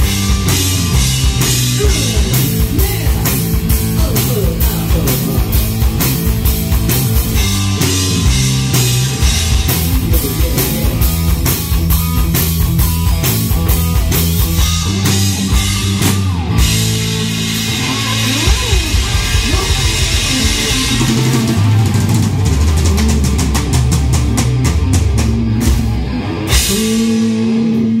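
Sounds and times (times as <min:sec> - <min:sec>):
drum hits: 0:00.0 - 0:27.2
bent guitar notes: 0:00.0 - 0:28.0
rock band playing: 0:00.0 - 0:28.0.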